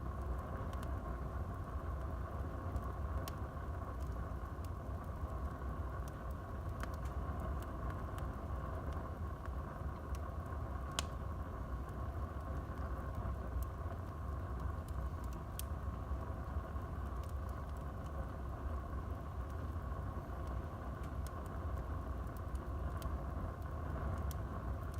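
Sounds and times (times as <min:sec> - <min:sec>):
fire flames rumbling: 0:00.0 - 0:24.9
wood crackling and popping: 0:00.0 - 0:24.9.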